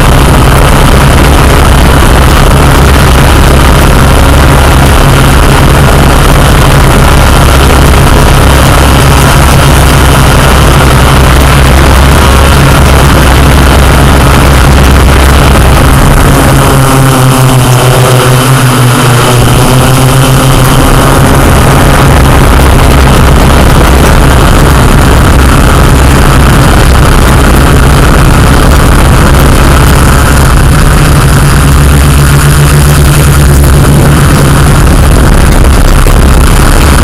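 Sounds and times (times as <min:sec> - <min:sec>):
drone motors humming: 0:00.0 - 0:37.0.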